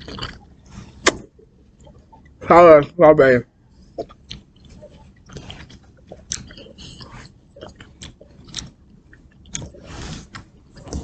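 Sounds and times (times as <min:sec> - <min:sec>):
person chewing fruit: 0:00.0 - 0:02.4, 0:03.8 - 0:11.0.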